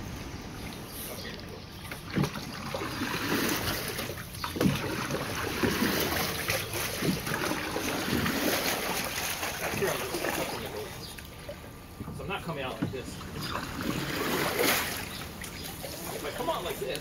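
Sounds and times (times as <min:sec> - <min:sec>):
paddle splashing in water: 0:00.6 - 0:16.8.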